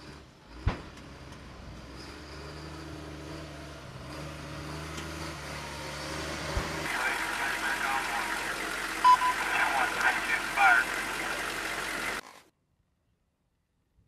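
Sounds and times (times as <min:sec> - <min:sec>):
diesel truck engine driving by: 0:00.0 - 0:12.2.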